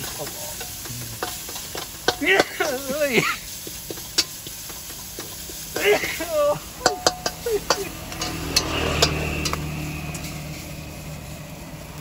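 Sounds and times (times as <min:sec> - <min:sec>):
metal spatula clanking on wok: 0:00.0 - 0:10.8.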